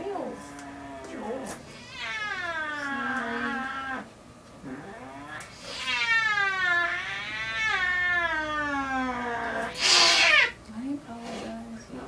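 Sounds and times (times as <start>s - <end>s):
cat yowling: 0.2s - 4.1s, 4.7s - 10.6s.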